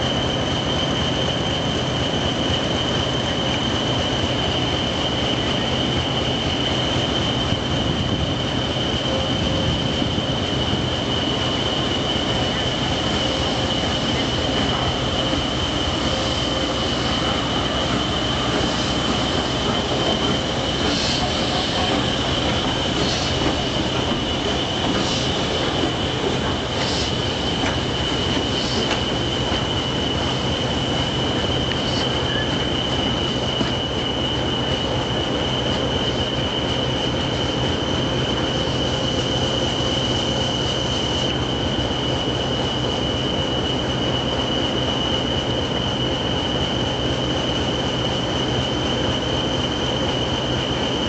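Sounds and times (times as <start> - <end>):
diesel locomotive idling whine: 0.0 - 51.0
steam locomotive moving slowly: 0.0 - 51.0.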